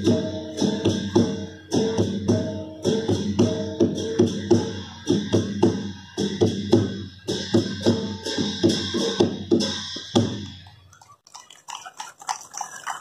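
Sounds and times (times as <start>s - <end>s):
drum and cymbal music: 0.0s - 10.6s.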